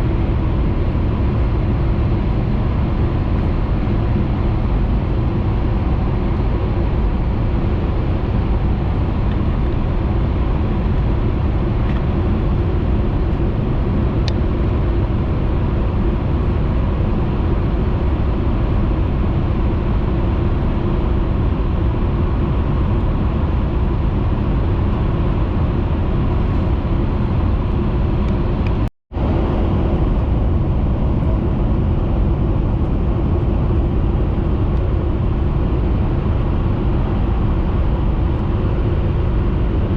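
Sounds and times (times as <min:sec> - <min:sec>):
train running at speed: 0:00.0 - 0:39.9.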